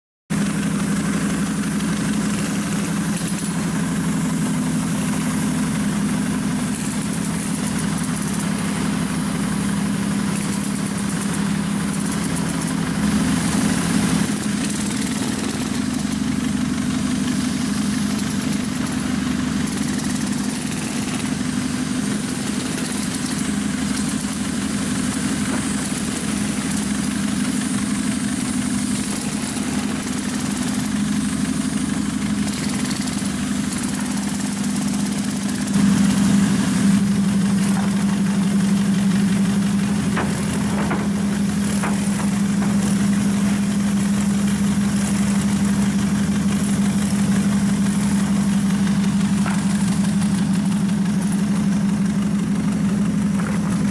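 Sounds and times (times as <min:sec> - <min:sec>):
low mechanical hum: 0:00.3 - 0:53.9.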